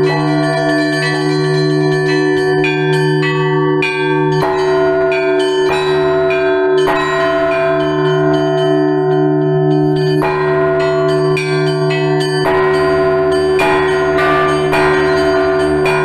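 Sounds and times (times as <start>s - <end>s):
large bell humming: 0.0s - 16.0s
small church bells ringing: 0.0s - 16.0s.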